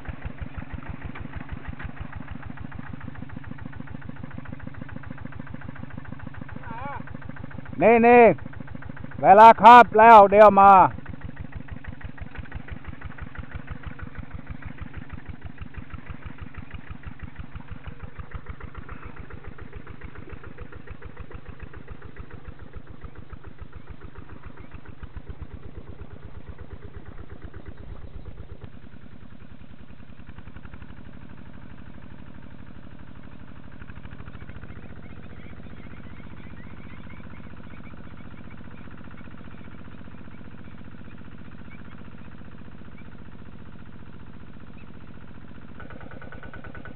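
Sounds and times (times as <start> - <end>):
diesel engine putt-putt: 0.0 - 46.9.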